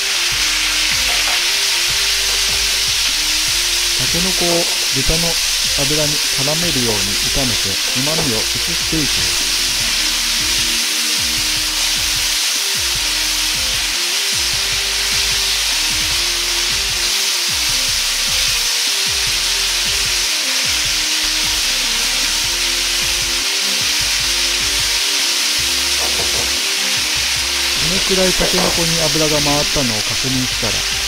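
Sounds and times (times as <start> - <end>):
food sizzling in hot oil: 0.0 - 31.0
soft background music: 0.0 - 31.0.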